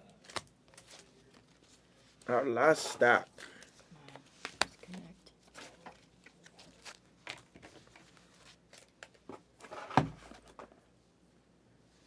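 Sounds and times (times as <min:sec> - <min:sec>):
cards and wrappers rustling: 0:00.1 - 0:10.7.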